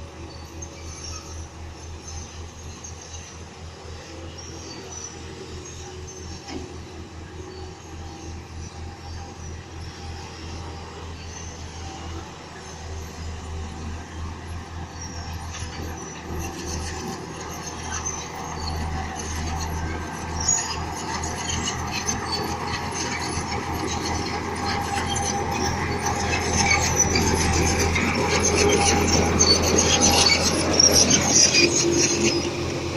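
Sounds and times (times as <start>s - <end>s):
diesel engine running: 0.0s - 32.9s
steel tracks rattling: 0.0s - 32.9s.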